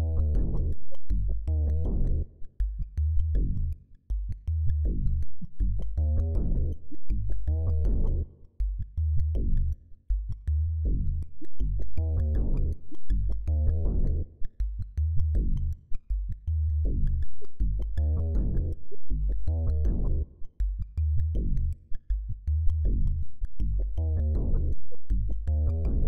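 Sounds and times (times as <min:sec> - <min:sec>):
deep pulsing bass: 0:00.0 - 0:26.0.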